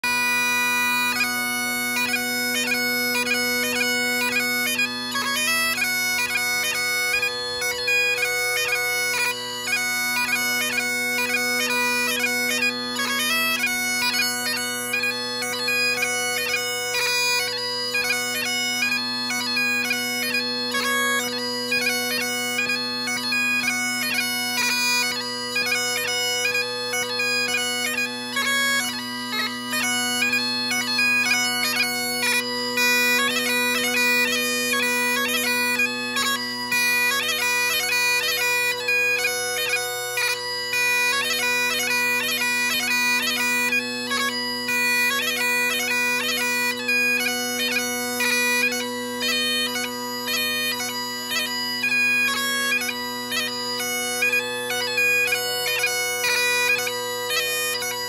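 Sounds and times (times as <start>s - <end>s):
bagpipe playing: 0.0s - 58.0s.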